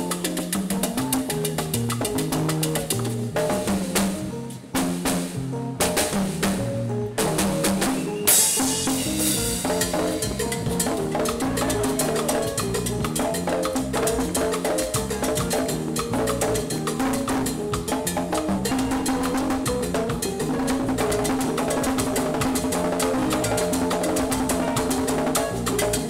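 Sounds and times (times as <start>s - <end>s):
drum kit rhythm: 0.0s - 26.0s
live jazz band playing: 0.0s - 26.0s.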